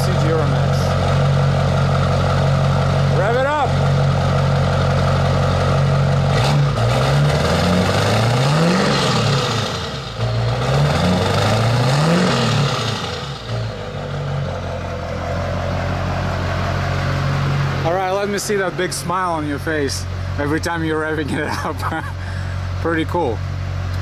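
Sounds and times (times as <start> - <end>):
engine revving: 0.0 - 22.9
diesel engine idling: 0.0 - 24.0.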